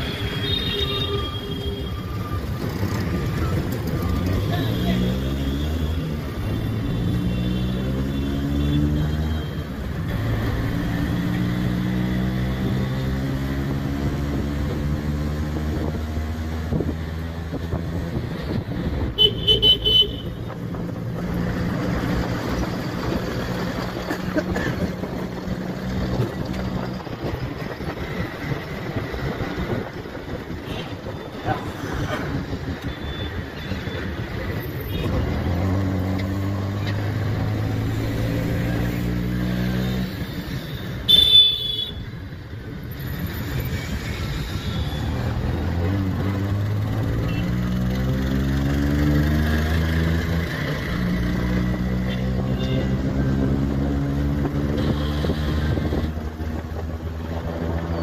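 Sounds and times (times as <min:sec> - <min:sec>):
auto rickshaw engine running: 0:00.0 - 0:58.0.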